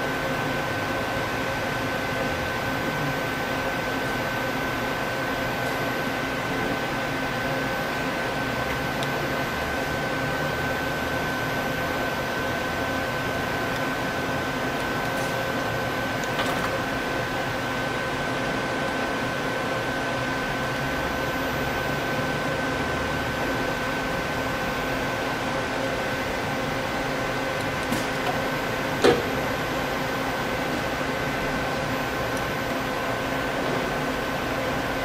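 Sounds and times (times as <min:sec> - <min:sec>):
lathe running with mechanical hum: 0:00.0 - 0:35.0.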